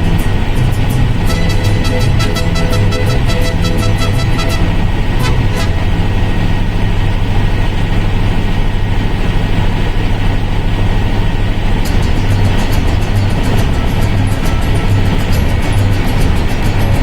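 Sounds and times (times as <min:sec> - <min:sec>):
helicopter cabin rumble: 0:00.0 - 0:17.0.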